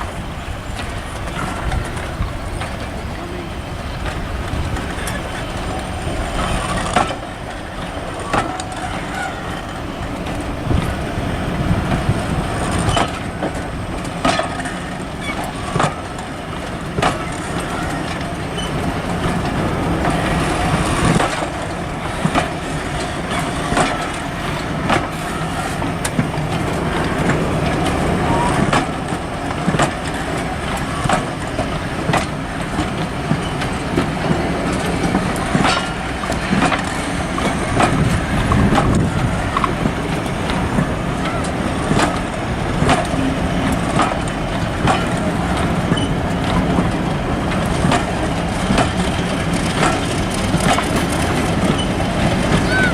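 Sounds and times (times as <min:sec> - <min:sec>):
train clicks and knocks: 0:00.0 - 0:52.9
train rumble: 0:00.0 - 0:52.9.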